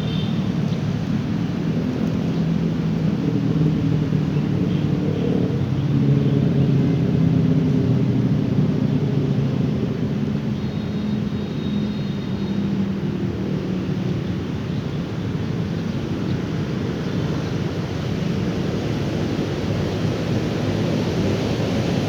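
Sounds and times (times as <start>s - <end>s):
vehicle engines humming: 0.0s - 22.0s.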